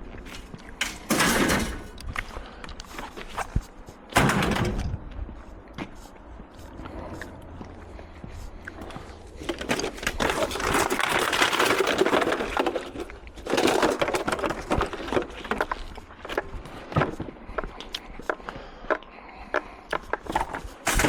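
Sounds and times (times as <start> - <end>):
scrap scraping and clattering: 0.0 - 5.0, 5.8 - 17.2, 20.0 - 21.0.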